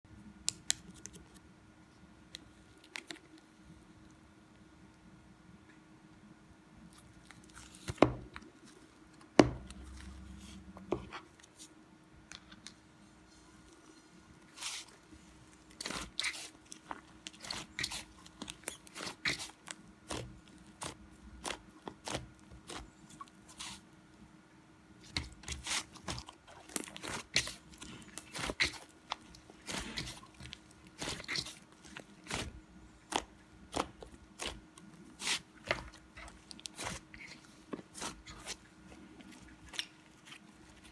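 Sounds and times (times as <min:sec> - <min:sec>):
faint steady hum: 0:00.1 - 0:40.9.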